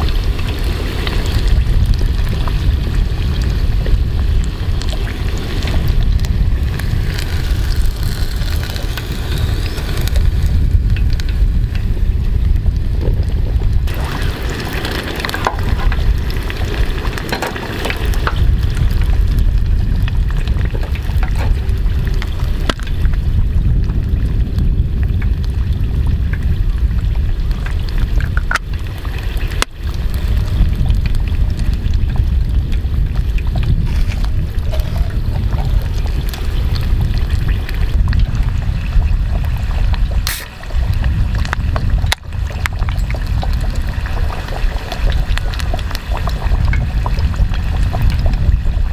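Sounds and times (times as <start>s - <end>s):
low rumble: 0.0s - 48.9s
oil bubbling and sizzling: 0.0s - 48.9s.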